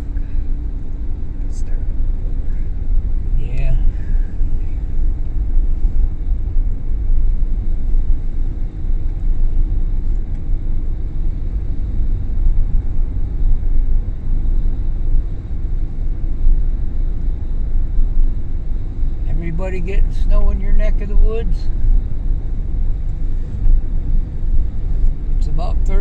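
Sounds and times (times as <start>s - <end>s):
vehicle engine and tyre noise: 0.0s - 26.0s.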